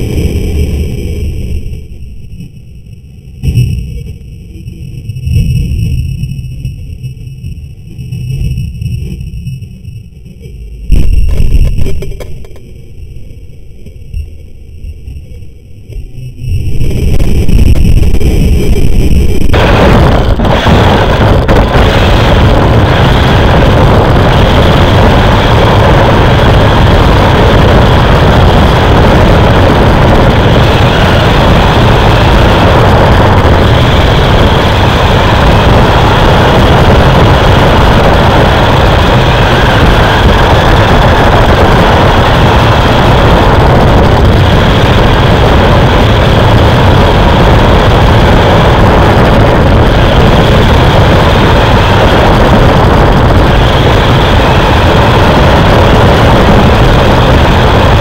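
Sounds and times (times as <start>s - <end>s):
racing truck engine drone: 0.0s - 58.0s.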